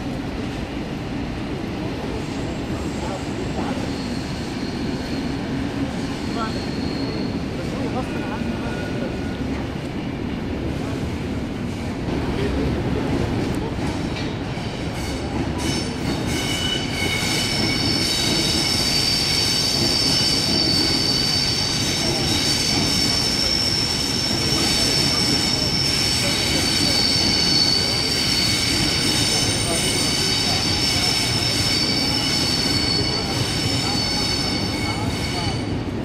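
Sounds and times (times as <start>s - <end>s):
low train rumble: 0.0s - 36.0s
train wheels squealing on rails: 1.8s - 9.9s, 13.4s - 36.0s.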